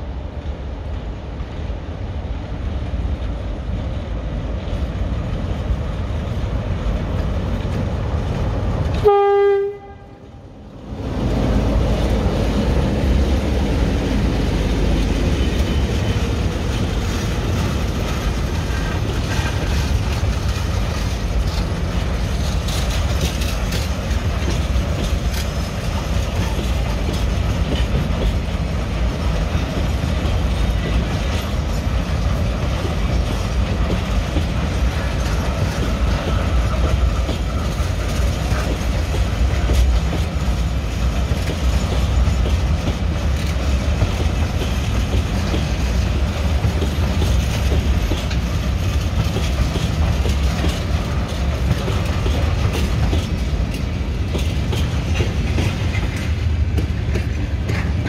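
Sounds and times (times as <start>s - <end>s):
train running on rails: 0.0s - 58.0s
wheel clatter over rail joints: 10.9s - 58.0s.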